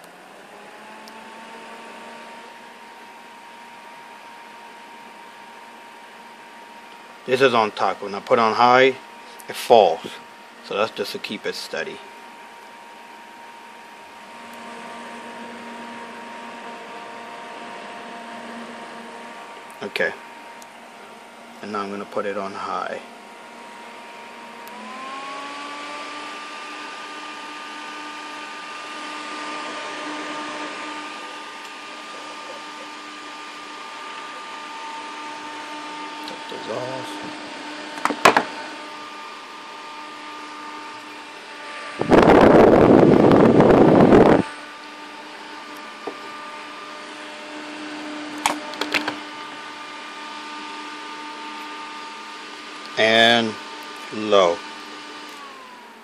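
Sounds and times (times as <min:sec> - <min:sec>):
case fan whine: 0:00.0 - 0:56.0.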